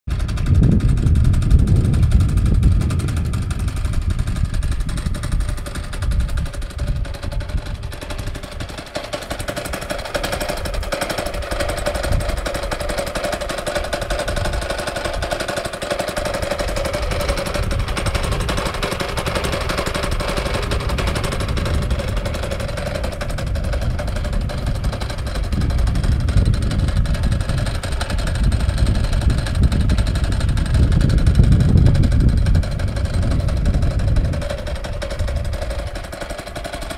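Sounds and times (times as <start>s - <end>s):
engine idling with rapid putter: 0.1s - 36.9s.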